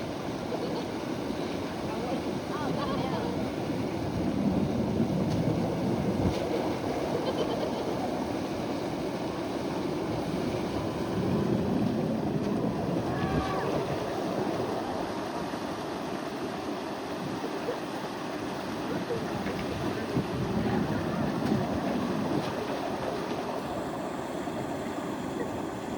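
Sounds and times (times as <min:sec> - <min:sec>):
river water rushing and lapping: 0:00.0 - 0:25.9
wind on microphone: 0:00.0 - 0:25.9.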